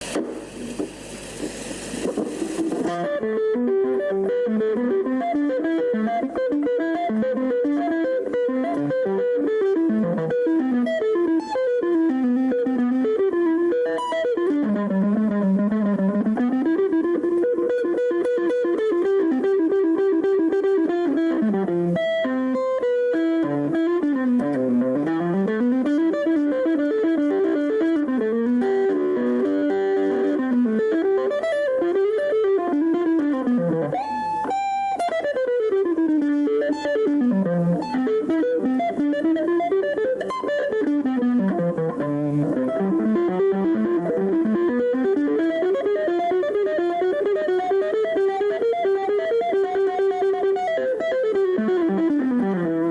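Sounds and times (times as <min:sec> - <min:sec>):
electric guitar solo: 0:00.0 - 0:52.9.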